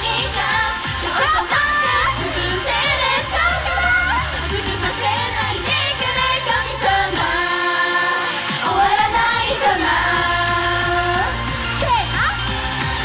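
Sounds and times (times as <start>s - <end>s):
female voices singing pop song: 0.0s - 12.5s
live pop music: 0.0s - 13.0s.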